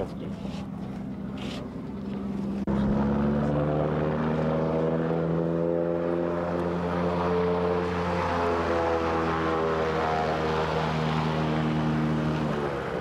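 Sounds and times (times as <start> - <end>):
propeller airplane engine running: 0.0 - 13.0.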